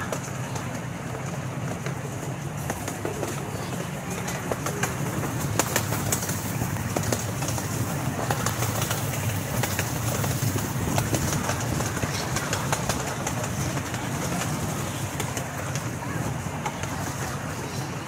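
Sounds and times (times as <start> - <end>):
cars rattling: 0.0 - 18.0
ride train rumbling on track: 0.0 - 18.0.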